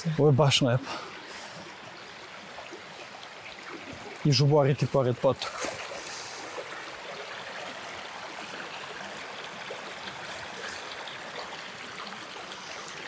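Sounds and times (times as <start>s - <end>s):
creek babbling over stones: 0.0s - 13.0s.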